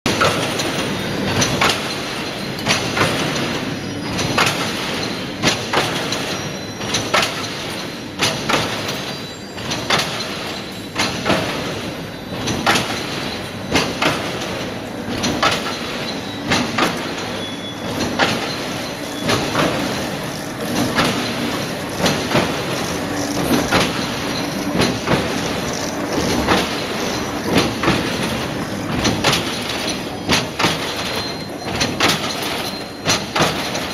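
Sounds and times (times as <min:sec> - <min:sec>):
wire weaving machine clattering: 0:00.1 - 0:33.9.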